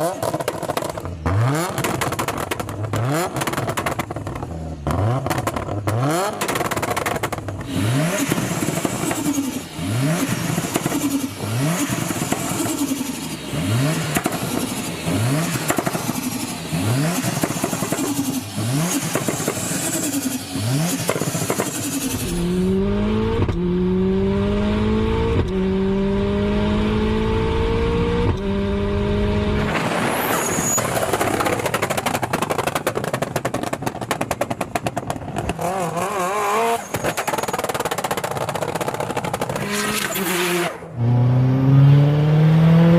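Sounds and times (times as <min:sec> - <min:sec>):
exhaust crackling: 0:00.0 - 0:23.7, 0:29.6 - 0:40.6
car engine revving: 0:00.0 - 0:42.9.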